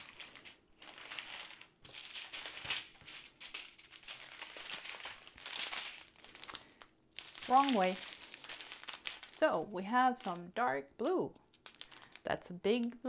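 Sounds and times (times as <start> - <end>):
plastic bags crinkling: 0.0 - 10.6, 11.2 - 13.0.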